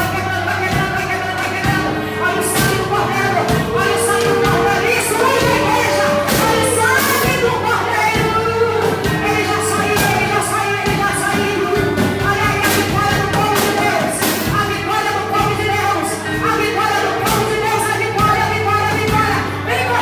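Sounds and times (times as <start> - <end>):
drum hits: 0.0 - 19.6
singing: 0.0 - 20.0
worship band music: 0.0 - 20.0.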